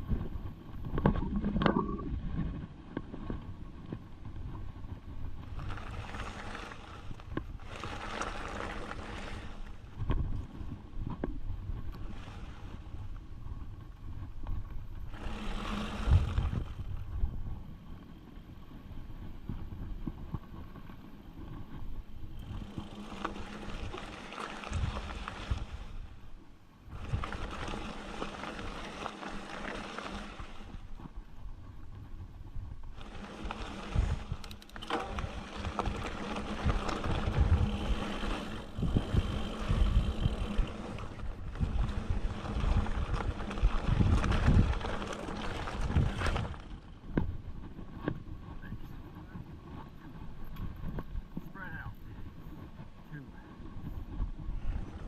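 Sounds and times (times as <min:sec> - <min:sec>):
bike rolling over rough ground: 0:00.0 - 0:55.0
wind on microphone: 0:00.0 - 0:55.0.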